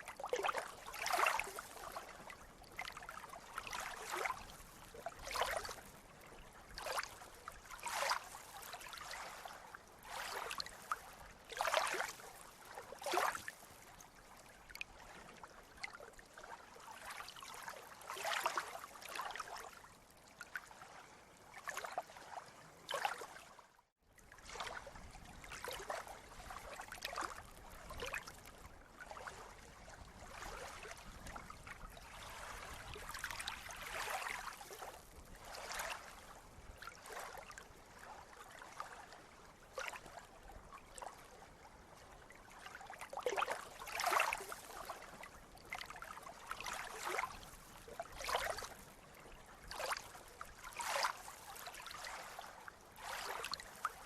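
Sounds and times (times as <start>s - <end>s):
sea water lapping and splashing: 0.0s - 54.0s.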